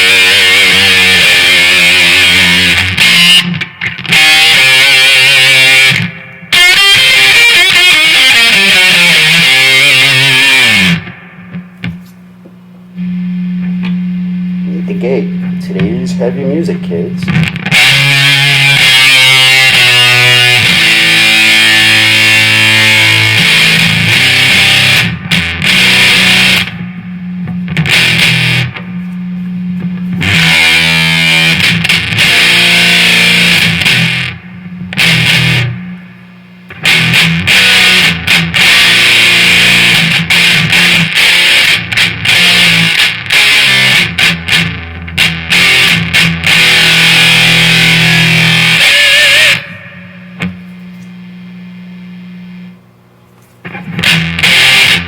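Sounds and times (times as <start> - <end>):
distorted electric guitar riffing: 0.0 - 52.8, 53.6 - 55.0.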